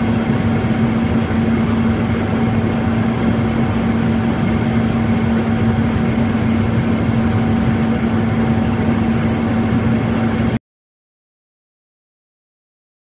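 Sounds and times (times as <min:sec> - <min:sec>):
constant low hum: 0:00.0 - 0:10.6
jet engine and airflow noise: 0:00.0 - 0:10.6.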